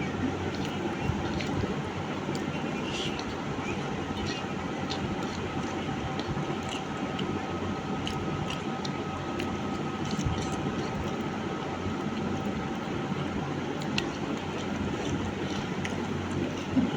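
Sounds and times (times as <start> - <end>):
person chewing: 0.0 - 13.0, 13.6 - 16.9
faint steady whine: 0.0 - 16.9.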